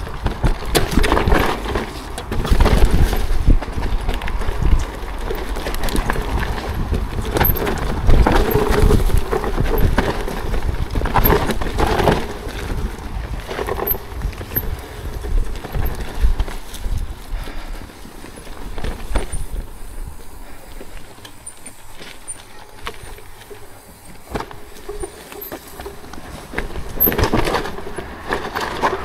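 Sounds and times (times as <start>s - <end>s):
bike rattling: 0.0s - 29.0s
wind rumbling on microphone: 0.0s - 29.0s
tyres clattering over rocks: 0.1s - 29.0s.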